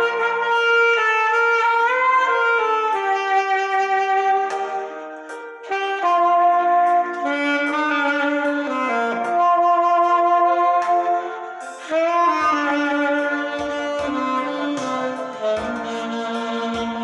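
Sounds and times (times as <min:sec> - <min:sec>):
backing track music: 0:00.0 - 0:17.0
saxophone slow melody: 0:00.0 - 0:17.0.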